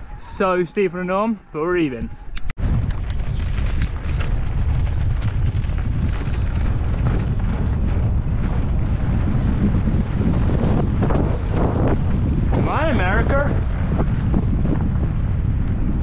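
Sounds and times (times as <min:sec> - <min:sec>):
wind buffeting microphone: 0:01.9 - 0:16.0
bike tyres crunching over dirt: 0:02.6 - 0:16.0.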